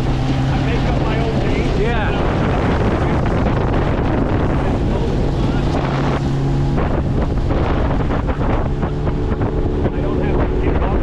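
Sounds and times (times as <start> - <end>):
boat engine hum: 0.0 - 11.0
water rushing along hull: 0.0 - 11.0
wind buffeting microphone: 0.0 - 11.0.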